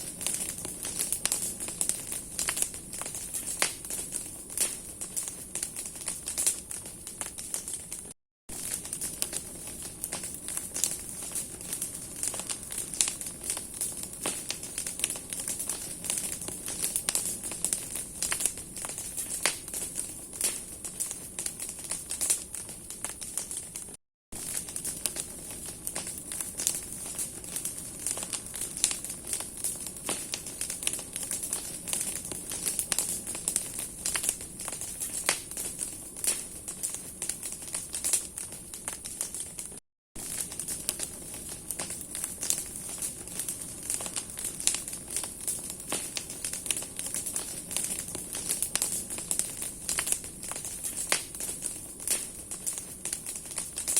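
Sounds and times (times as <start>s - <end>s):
bonfire crackling and popping: 0.0s - 53.9s
fire hissing: 0.0s - 53.9s.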